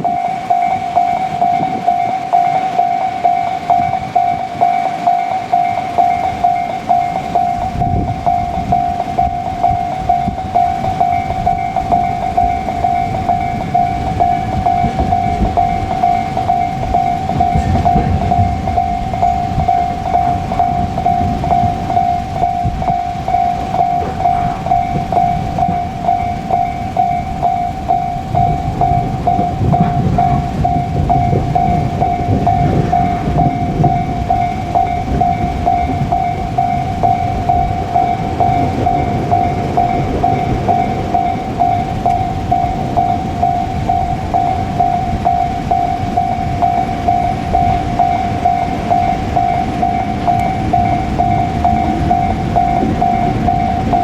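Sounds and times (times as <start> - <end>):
freight train rumbling: 0.0 - 54.0
level crossing bell ringing: 0.0 - 54.0.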